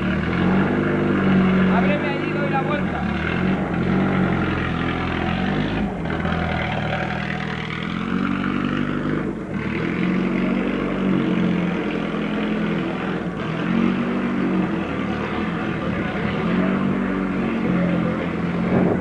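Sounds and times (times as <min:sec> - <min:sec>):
racing car accelerating: 0:00.0 - 0:19.0.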